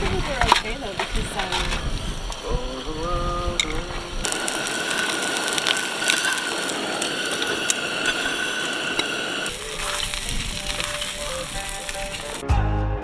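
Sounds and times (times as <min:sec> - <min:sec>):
steady high whine: 0:00.0 - 0:12.4
food sizzling in a frying pan: 0:01.1 - 0:12.4.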